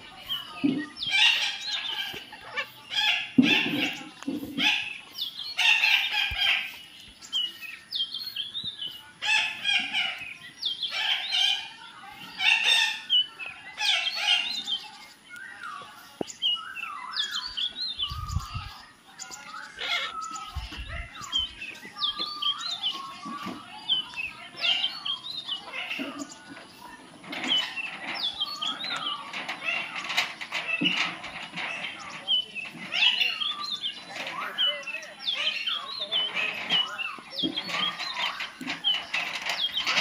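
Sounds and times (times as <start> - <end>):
birds chirping and squawking: 0.0 - 40.0.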